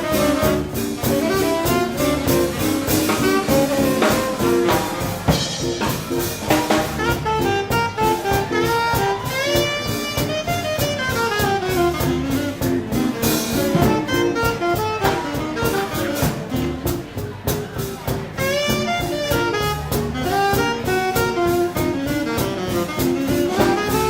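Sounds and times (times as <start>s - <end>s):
sliding horn phrase: 0.0s - 24.0s
swing band playing: 0.0s - 24.0s.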